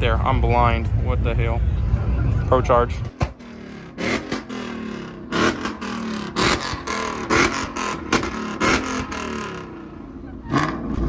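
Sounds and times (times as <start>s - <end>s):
engine revving in short blips: 1.7s - 11.0s.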